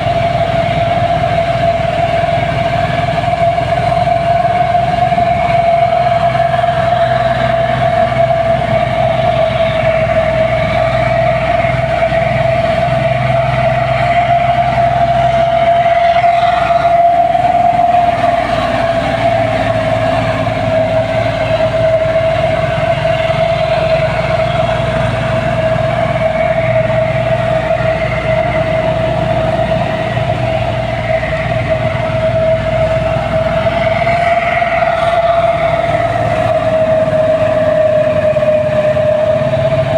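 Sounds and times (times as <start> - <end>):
diesel machinery engine rumble: 0.0 - 39.9
loud constant whine: 0.0 - 39.9.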